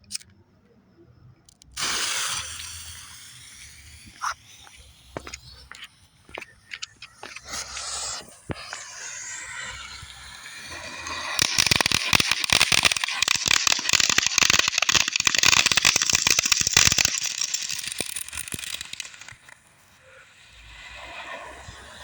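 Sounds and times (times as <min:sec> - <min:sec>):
firework fountain hissing and crackling: 0:01.7 - 0:22.0.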